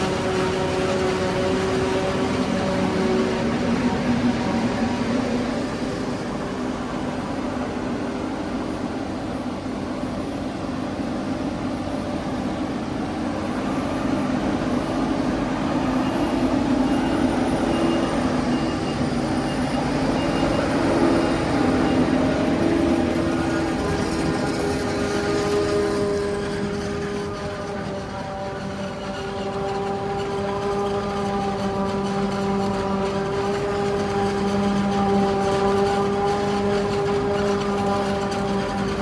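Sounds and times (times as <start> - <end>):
forage harvester engine drone: 0.0 - 39.0.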